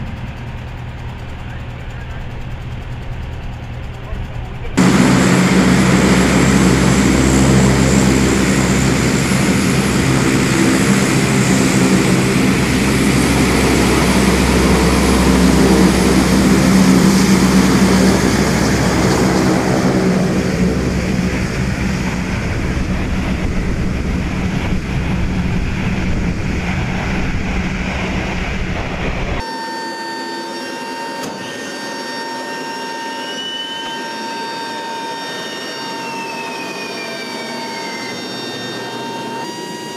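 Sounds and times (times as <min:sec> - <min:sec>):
high whine: 0:00.0 - 0:39.9
turboprop engines droning: 0:00.0 - 0:39.9.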